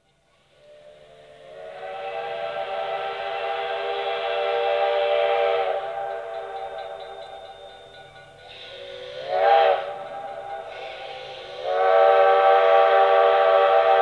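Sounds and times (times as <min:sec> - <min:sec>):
steam locomotive whistle blast: 0:00.4 - 0:14.0.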